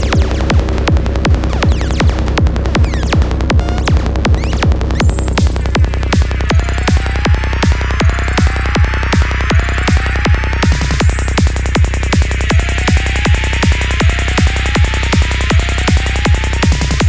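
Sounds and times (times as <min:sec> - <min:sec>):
continuous bass: 0:00.0 - 0:17.0
four-on-the-floor kick drum: 0:00.0 - 0:17.0.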